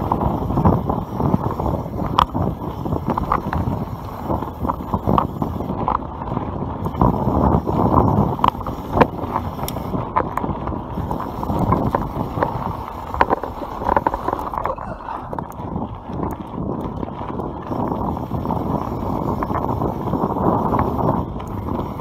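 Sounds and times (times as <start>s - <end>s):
bike clicks and rattles: 0.0s - 22.0s
tyres rumbling over dirt: 0.0s - 22.0s
wind on microphone: 0.0s - 22.0s.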